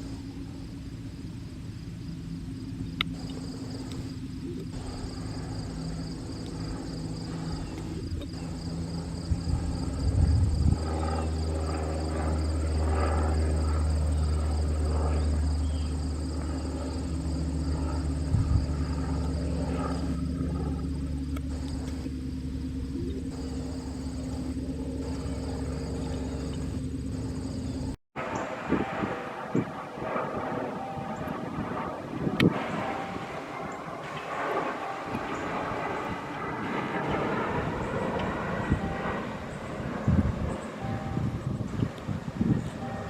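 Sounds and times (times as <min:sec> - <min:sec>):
insects chirping: 0:00.0 - 0:28.9, 0:30.6 - 0:43.0
low humming rumble: 0:00.0 - 0:43.0.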